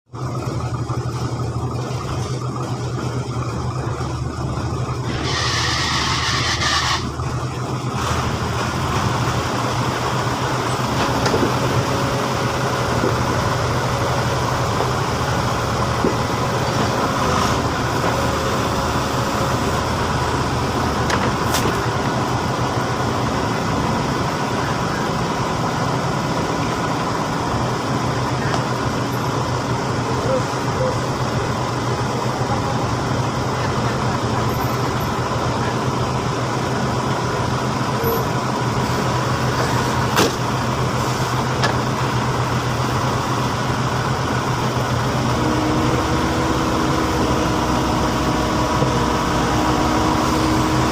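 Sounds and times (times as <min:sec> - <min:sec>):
heavy diesel engine running: 0:00.1 - 0:50.9.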